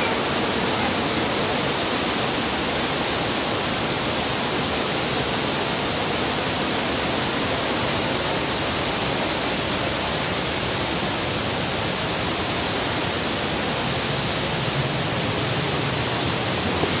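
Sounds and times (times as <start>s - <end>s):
falling water rushing: 0.0s - 17.0s.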